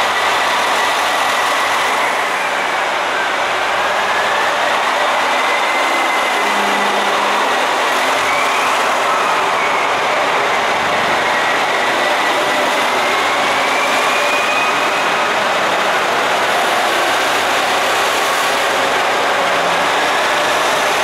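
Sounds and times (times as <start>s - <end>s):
diesel train engines: 0.0s - 21.0s
train wheels on rails: 0.0s - 21.0s.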